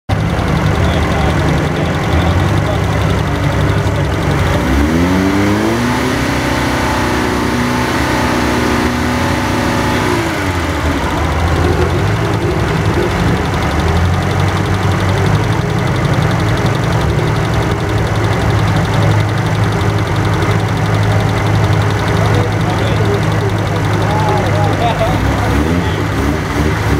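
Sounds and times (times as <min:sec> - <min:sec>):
sports car engine revving: 0:00.1 - 0:26.9.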